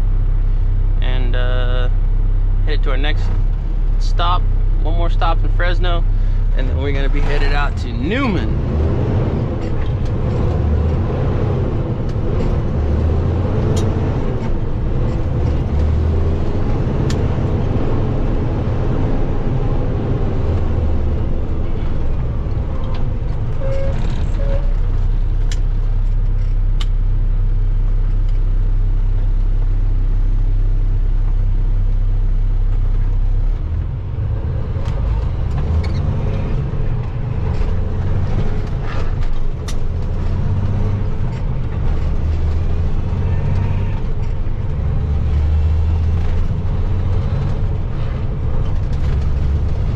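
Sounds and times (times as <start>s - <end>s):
truck engine and road noise drone: 0.0s - 49.9s.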